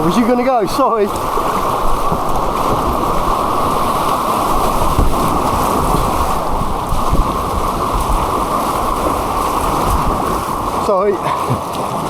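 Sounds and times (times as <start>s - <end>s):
muffled rushing white water: 0.0s - 12.0s.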